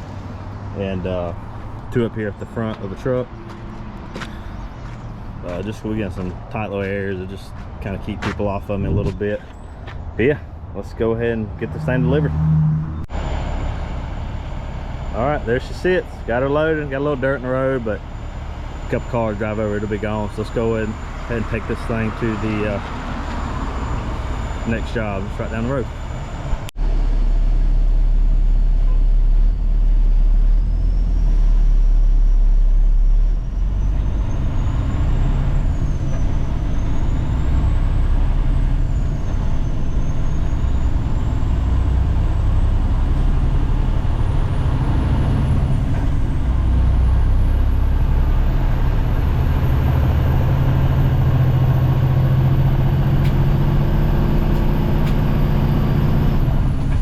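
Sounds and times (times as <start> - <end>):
diesel truck engine rumbling: 0.0 - 57.0
engine high whine: 0.0 - 57.0.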